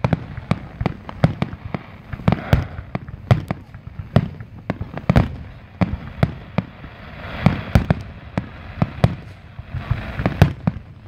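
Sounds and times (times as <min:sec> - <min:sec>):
firework bangs with rumbling tail: 0:00.0 - 0:11.0.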